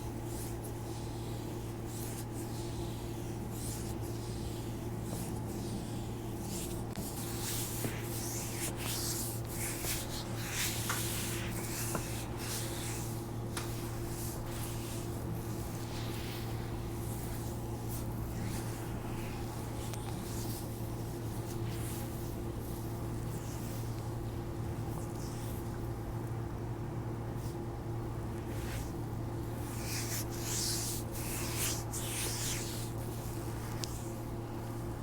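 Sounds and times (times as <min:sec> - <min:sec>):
hands rubbing skin: 0:00.1 - 0:24.2, 0:28.4 - 0:34.4.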